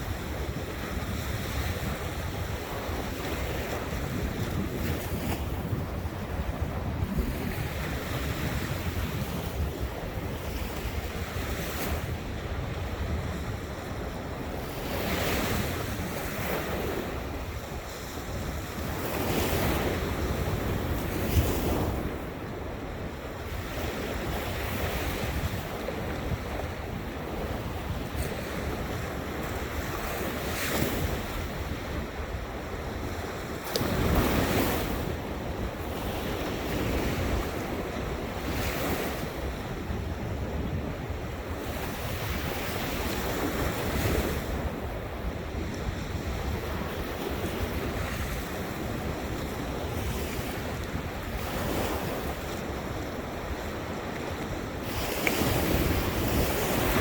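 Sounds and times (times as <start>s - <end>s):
waves breaking: 0.0s - 57.0s
wind rumbling on microphone: 0.0s - 57.0s.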